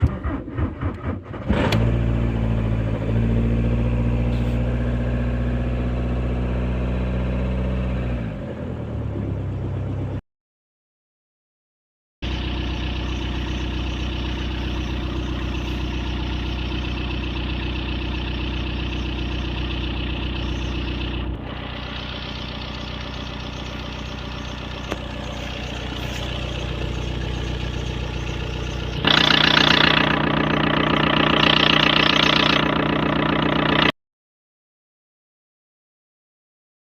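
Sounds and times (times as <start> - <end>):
diesel engine idling: 0.0 - 10.2, 12.2 - 33.9.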